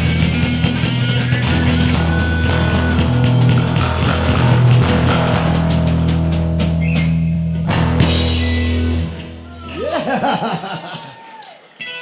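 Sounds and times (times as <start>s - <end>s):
rock band playing loud chord: 0.0s - 9.7s
electric guitar bending notes: 0.0s - 10.9s.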